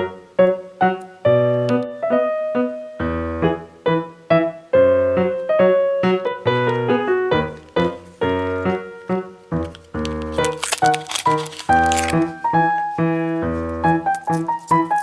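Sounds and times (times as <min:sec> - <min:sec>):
piano-like keyboard chords: 0:00.0 - 0:15.0.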